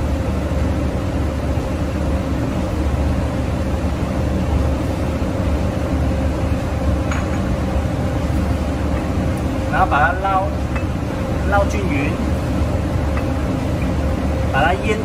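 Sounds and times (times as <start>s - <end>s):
fan hum with whine: 0.0s - 15.0s.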